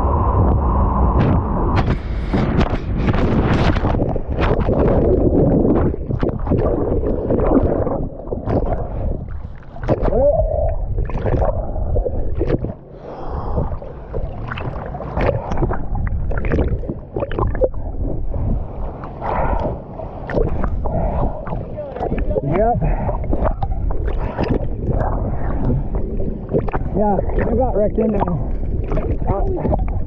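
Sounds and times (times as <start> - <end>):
wind buffeting microphone: 0.0 - 30.0
water splashing: 1.2 - 30.0.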